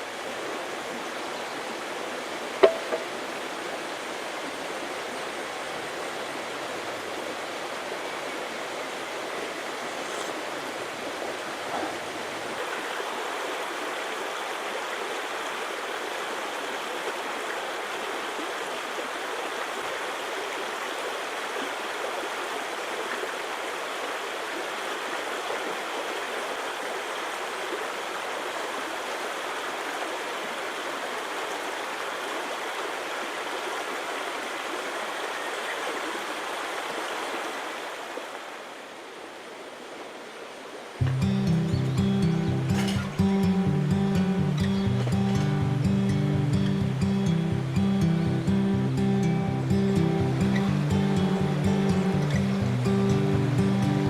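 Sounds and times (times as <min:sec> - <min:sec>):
water flowing: 0:00.0 - 0:54.0.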